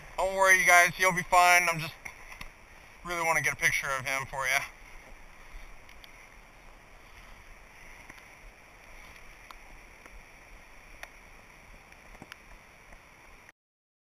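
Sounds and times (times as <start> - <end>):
outdoor hiss: 0.0 - 13.5.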